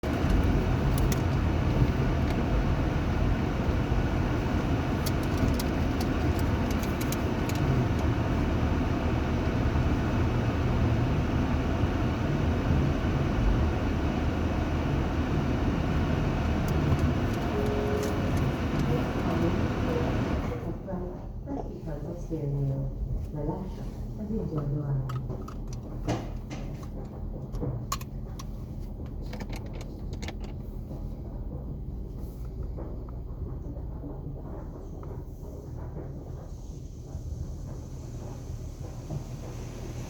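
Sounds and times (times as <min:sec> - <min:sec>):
motor vehicle low rumble: 0:00.0 - 0:40.0.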